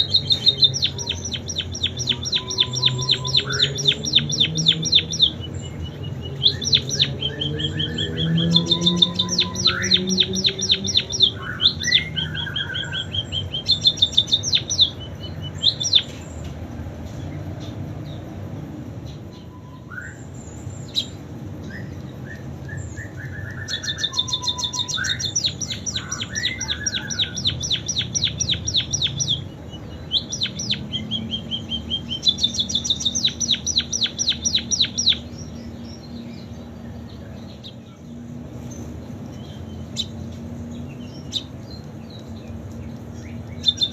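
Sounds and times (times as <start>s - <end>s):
pipit singing trills: 0.0s - 16.2s, 19.3s - 43.9s.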